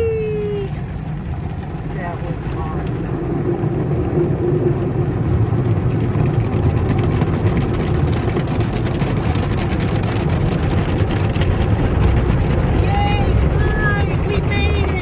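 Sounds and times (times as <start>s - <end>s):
car wash machinery rumbling: 0.0s - 15.0s
fine rapid crackle: 0.0s - 15.0s.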